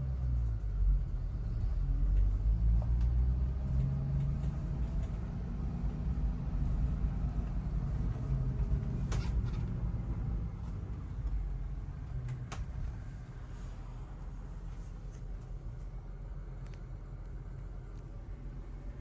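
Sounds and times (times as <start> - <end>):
car engine running: 0.4 - 19.0.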